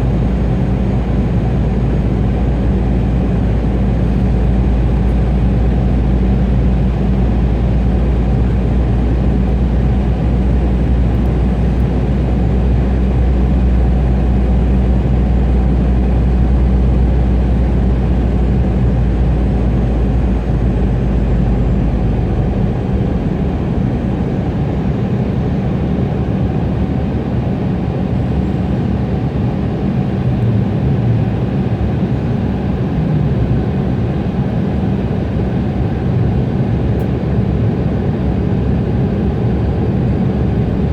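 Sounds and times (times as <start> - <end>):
airliner cabin engine noise: 0.0 - 40.9.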